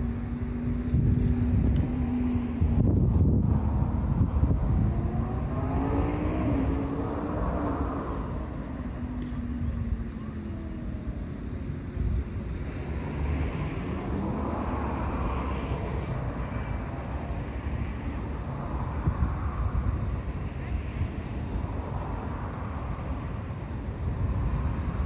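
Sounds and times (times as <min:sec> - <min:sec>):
road traffic rumble: 0:00.0 - 0:25.0
vehicles passing by: 0:00.0 - 0:25.0.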